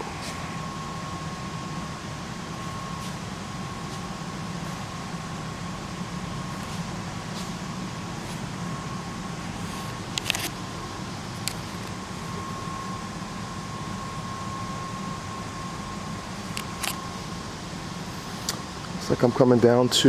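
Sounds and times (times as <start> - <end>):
mechanical fan hum: 0.0 - 20.0.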